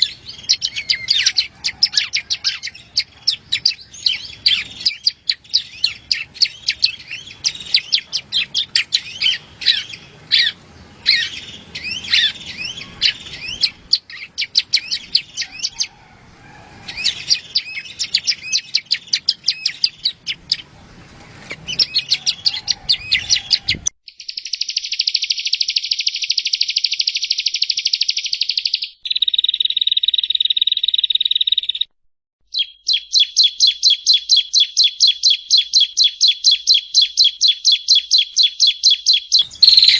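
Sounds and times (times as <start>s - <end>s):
bird chirping rapidly: 0.0s - 16.0s, 16.9s - 20.7s, 21.4s - 31.9s, 32.5s - 39.9s
bird trilling: 0.0s - 16.1s, 16.8s - 20.6s, 21.5s - 31.9s, 32.5s - 39.9s.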